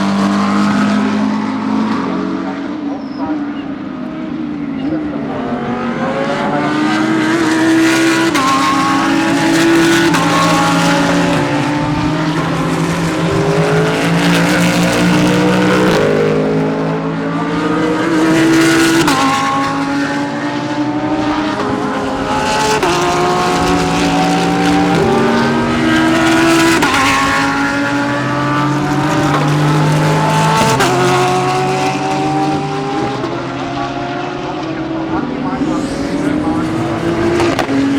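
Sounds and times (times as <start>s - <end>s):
race cars accelerating past: 0.0s - 37.9s.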